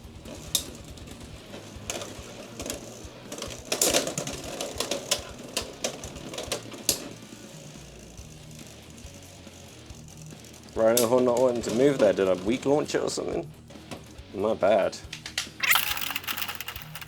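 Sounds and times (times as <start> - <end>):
spinning tops whirring and clashing: 0.1 - 13.0, 15.3 - 17.0.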